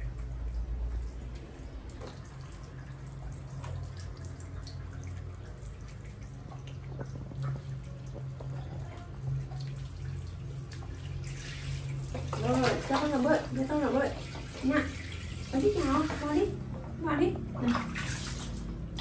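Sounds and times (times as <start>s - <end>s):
drips and splashes: 0.0s - 19.0s.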